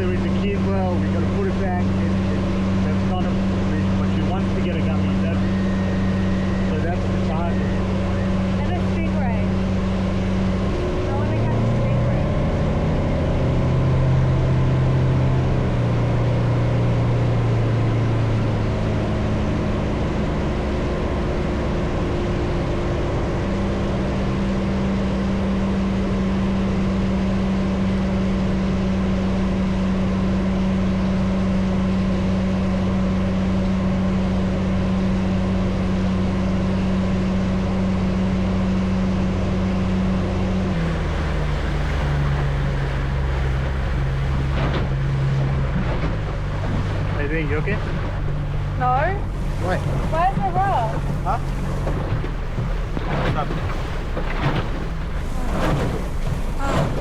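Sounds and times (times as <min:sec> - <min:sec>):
water washing against hull: 0:00.0 - 0:40.0, 0:40.6 - 0:57.0
motorboat engine running: 0:00.0 - 0:57.0.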